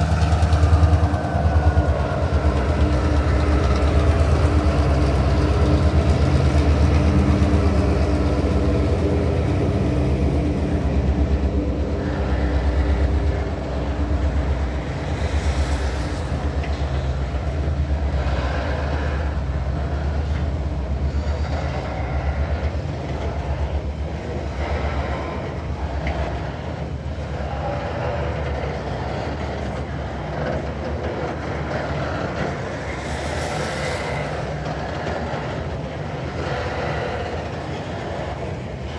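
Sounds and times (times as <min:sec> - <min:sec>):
diesel locomotive engine droning: 0:00.0 - 0:38.9
train wagons rumbling: 0:00.0 - 0:38.9
wheels clacking over rail joints: 0:00.0 - 0:38.9.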